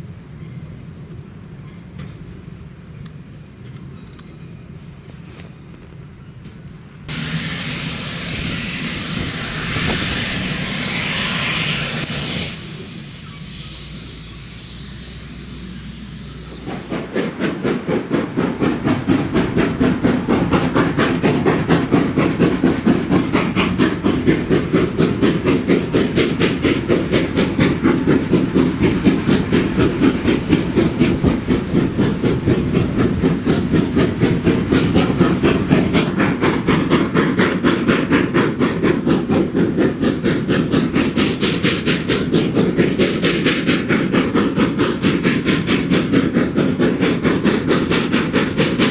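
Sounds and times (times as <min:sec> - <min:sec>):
steam locomotive exhaust beats: 0:00.0 - 0:48.9
steam hiss: 0:06.8 - 0:48.9.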